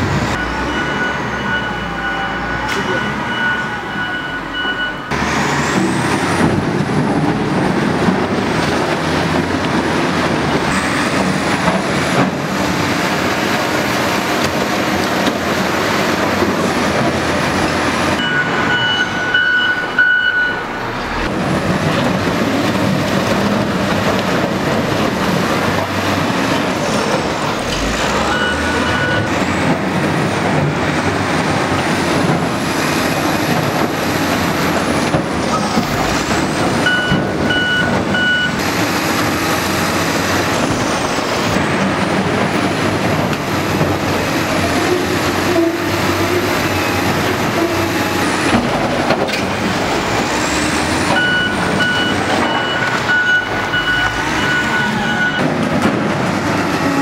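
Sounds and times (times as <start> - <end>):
diesel loader engine with whine: 0.0 - 57.0.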